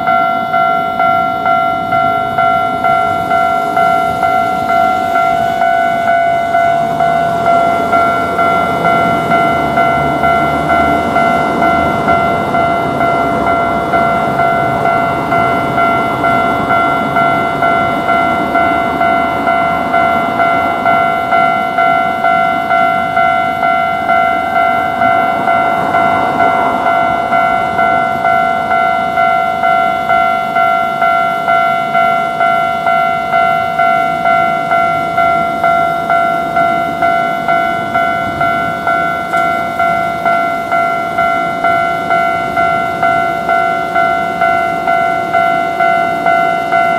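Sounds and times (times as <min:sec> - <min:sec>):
level crossing warning bell: 0:00.0 - 0:46.9
train running past: 0:00.0 - 0:46.9.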